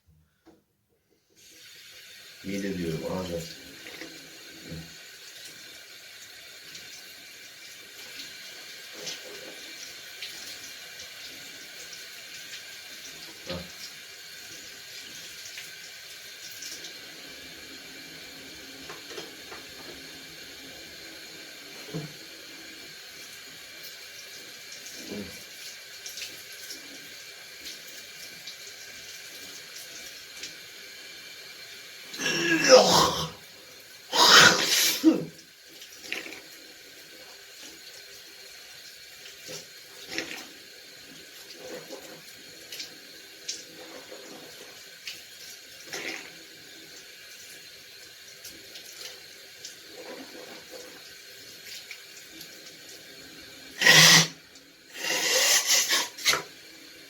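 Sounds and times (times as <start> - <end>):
tap water running into sink: 1.4 - 57.0.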